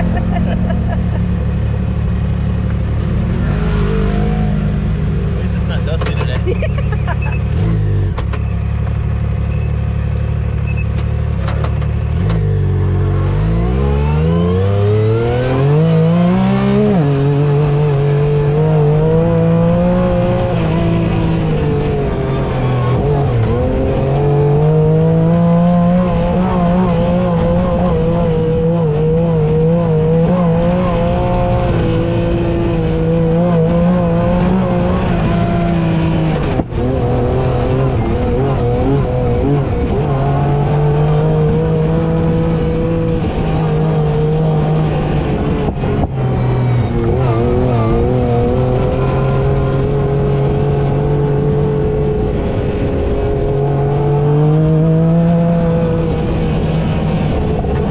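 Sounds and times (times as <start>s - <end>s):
vehicle engine revving: 0.0s - 57.9s.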